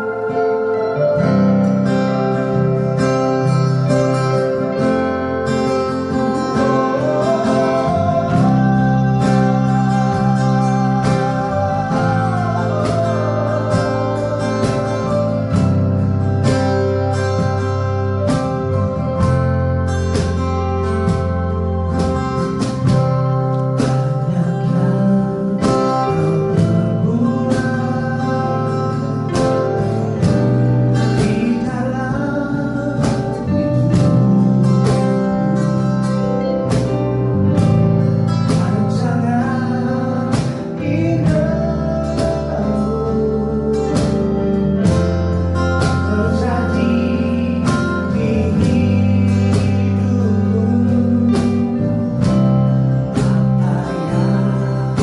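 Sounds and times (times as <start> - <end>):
person singing: 0.0 - 20.4, 21.1 - 55.0
strummed guitar chords: 0.0 - 55.0.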